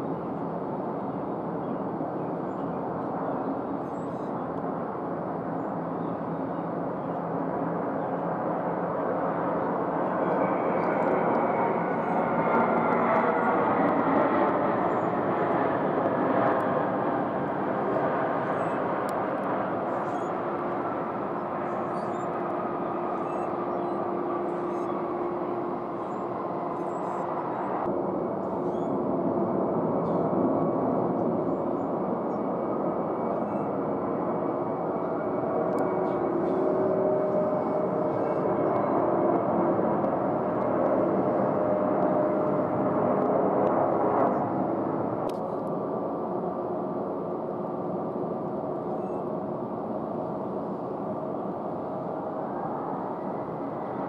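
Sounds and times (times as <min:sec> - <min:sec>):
jet engine noise: 0:00.0 - 0:54.0.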